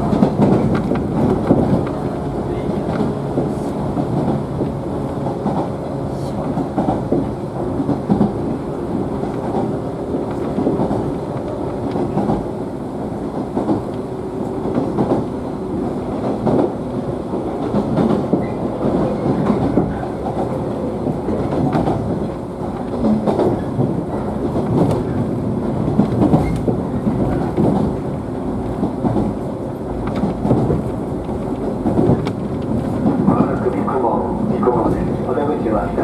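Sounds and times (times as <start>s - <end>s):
wheels clacking over rail joints: 0.0s - 5.8s, 6.5s - 12.5s, 13.2s - 33.9s
train car rumbling: 0.0s - 36.0s.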